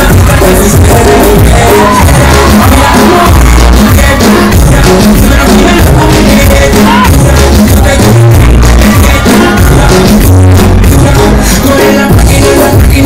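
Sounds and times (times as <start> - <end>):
upbeat praise music: 0.0 - 13.0.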